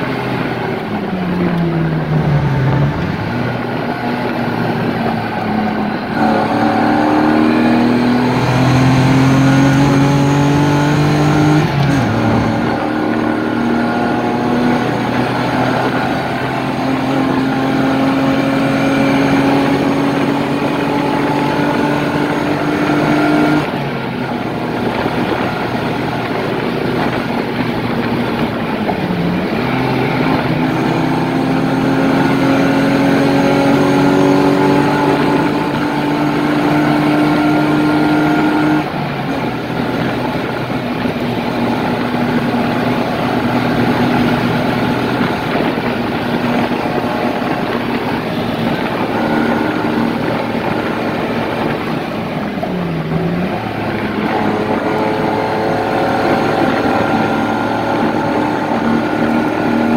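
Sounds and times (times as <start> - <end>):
car engine at speed: 0.0 - 59.9
wind and tyre noise: 0.0 - 59.9.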